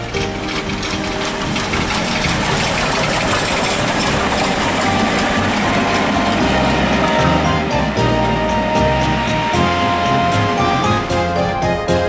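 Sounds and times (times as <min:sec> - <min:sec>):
steam locomotive passing: 0:00.0 - 0:12.0.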